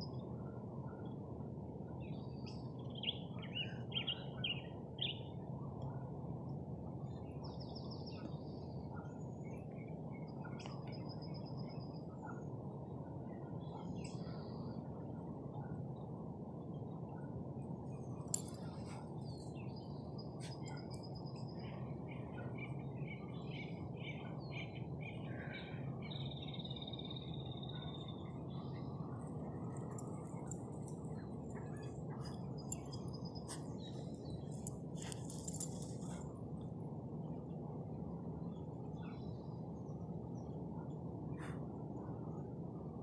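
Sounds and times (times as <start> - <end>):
low background rumble: 0.0 - 43.0
songbirds chirping and trilling: 0.0 - 43.0.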